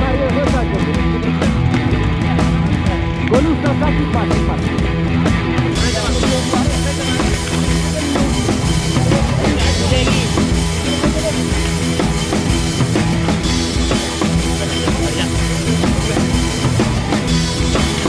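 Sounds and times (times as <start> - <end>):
rock music with drums: 0.0 - 18.0.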